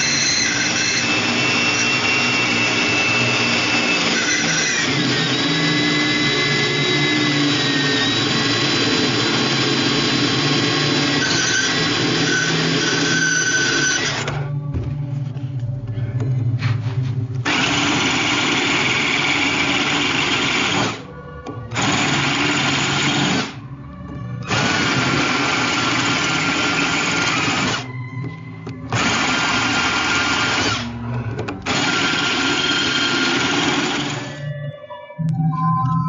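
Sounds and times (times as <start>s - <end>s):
power tool running: 0.0s - 14.4s, 17.4s - 21.1s, 21.7s - 23.6s, 24.4s - 27.9s, 28.9s - 34.4s.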